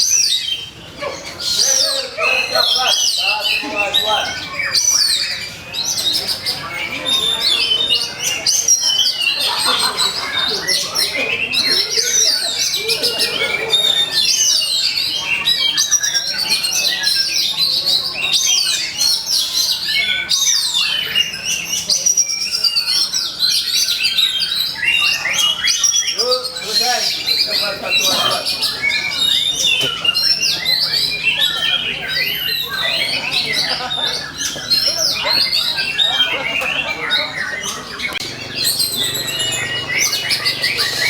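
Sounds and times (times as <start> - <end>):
songbird whistles and trills: 0.0 - 41.0.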